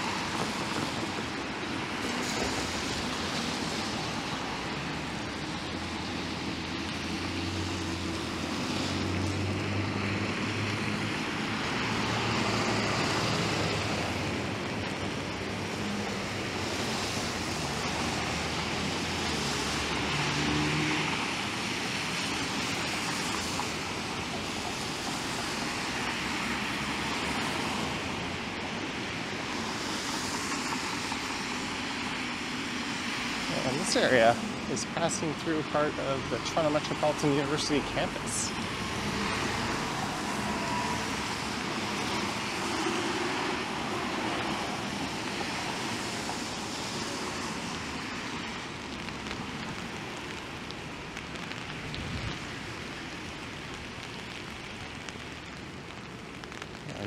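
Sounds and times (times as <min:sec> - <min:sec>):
passing vehicle engines hum: 0:00.0 - 0:53.7
rain: 0:00.0 - 0:57.0
tyres hissing on wet pavement: 0:00.0 - 0:57.0.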